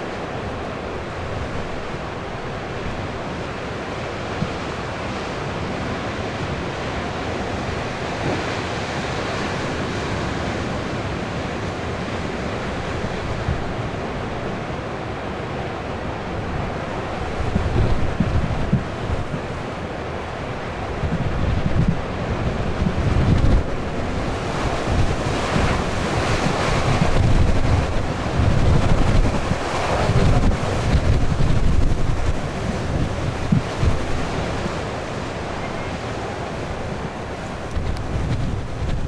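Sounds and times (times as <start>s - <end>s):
waves breaking: 0.0s - 39.0s
wind buffeting microphone: 0.0s - 39.0s.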